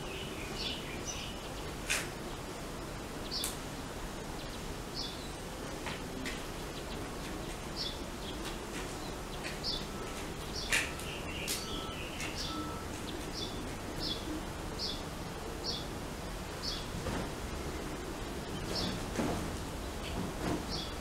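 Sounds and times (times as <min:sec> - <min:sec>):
birds chirping: 0:00.0 - 0:19.1.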